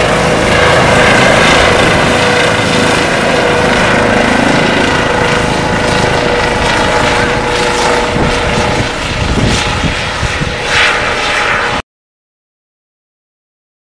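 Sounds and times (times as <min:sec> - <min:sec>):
helicopter rotor beat: 0:00.0 - 0:11.8
helicopter turbine whine: 0:00.0 - 0:11.8.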